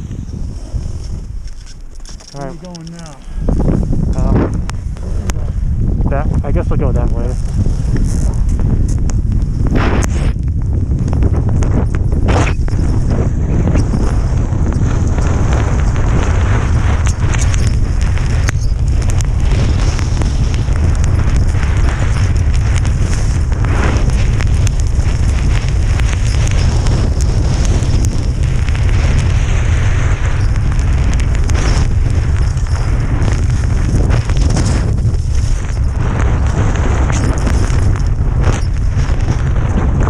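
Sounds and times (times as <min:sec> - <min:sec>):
heavy wind buffeting microphone: 0:00.0 - 0:40.0.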